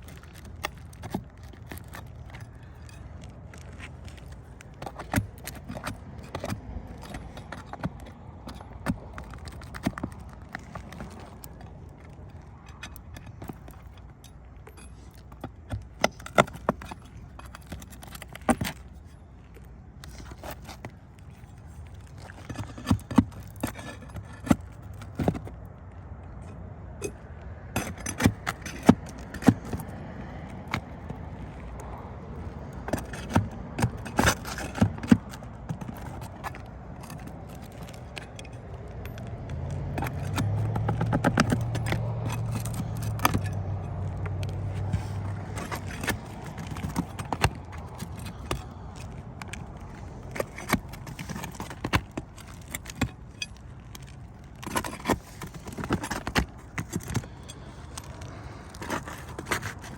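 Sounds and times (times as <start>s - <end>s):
hand tools prying up shingles: 0.0s - 59.9s.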